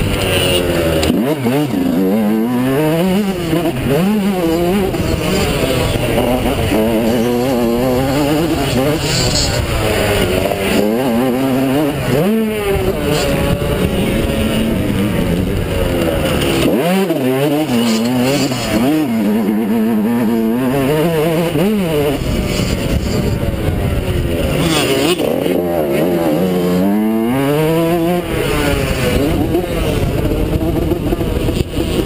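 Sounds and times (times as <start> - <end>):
two-stroke motorcycle engine revving: 0.0 - 32.0.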